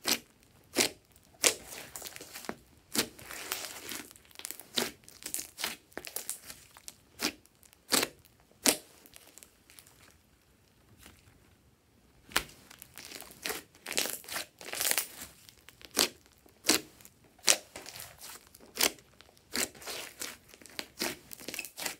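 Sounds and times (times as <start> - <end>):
slime popping and squishing: 0.0 - 9.9, 12.3 - 21.9.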